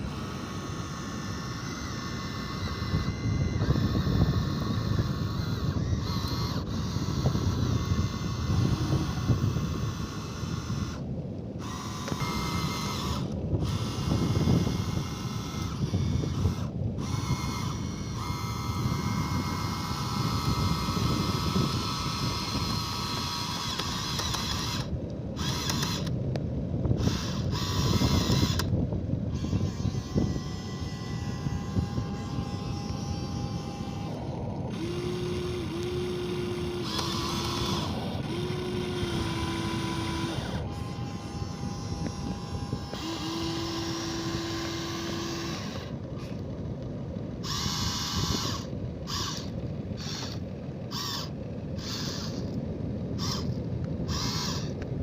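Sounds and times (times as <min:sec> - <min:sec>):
small electric motors whirring: 0:00.0 - 0:55.0.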